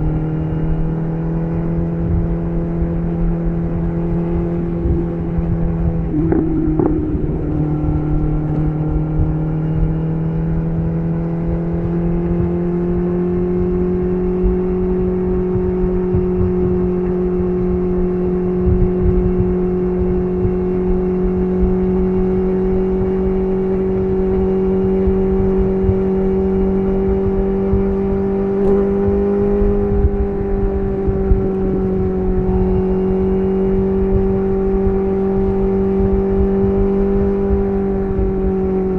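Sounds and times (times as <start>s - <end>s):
motorcycle engine cruising: 0.0s - 38.9s
road rumble: 0.0s - 38.9s
wind: 0.0s - 38.9s.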